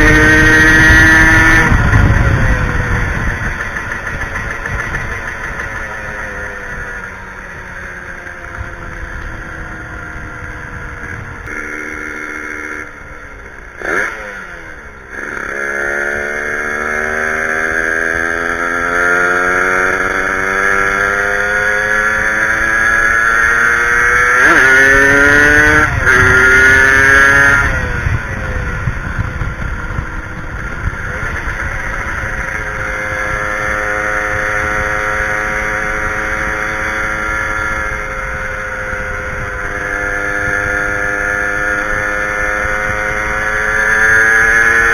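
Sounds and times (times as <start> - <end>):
two-stroke motorcycle engine accelerating: 0.0 - 44.9.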